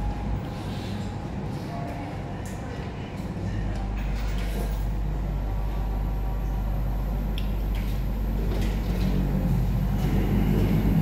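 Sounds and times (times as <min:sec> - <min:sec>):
restaurant room hum: 0:00.0 - 0:11.0.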